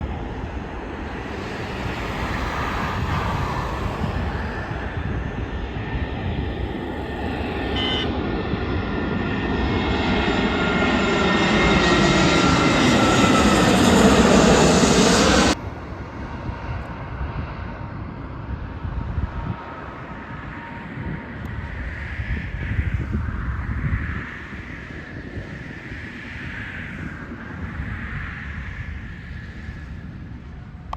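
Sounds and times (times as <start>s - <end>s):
jet airliner passing with whine: 0.0s - 30.9s.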